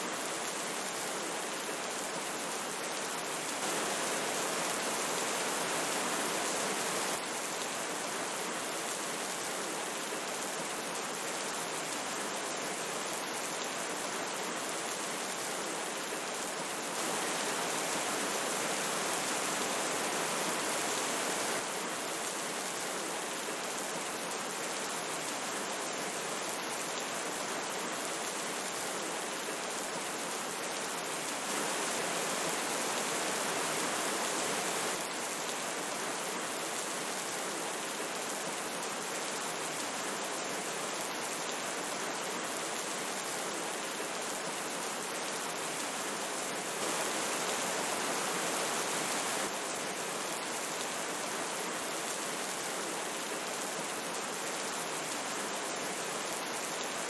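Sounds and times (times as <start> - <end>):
falling rain: 0.0 - 57.0
flowing river: 0.0 - 57.0.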